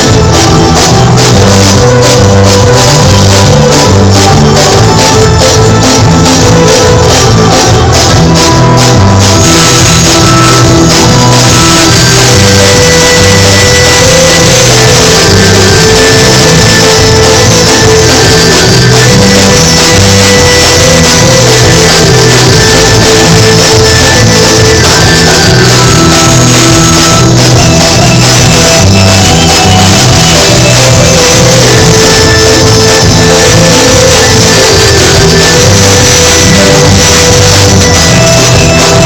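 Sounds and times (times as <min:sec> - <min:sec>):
loud music with steady beat: 0:00.0 - 0:39.0
sharp percussion pattern: 0:00.0 - 0:39.0
stepping bass line: 0:00.0 - 0:39.0.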